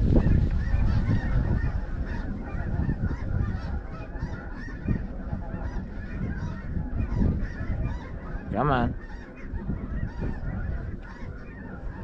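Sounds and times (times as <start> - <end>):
geese calling: 0.0 - 12.0.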